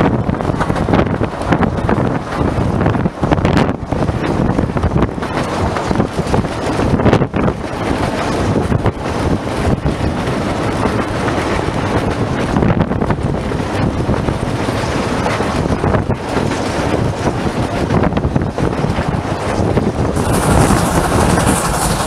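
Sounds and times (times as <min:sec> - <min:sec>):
rail clacks: 0:00.0 - 0:22.0
train wheels rumbling: 0:00.0 - 0:22.0
wind on microphone: 0:00.0 - 0:22.0.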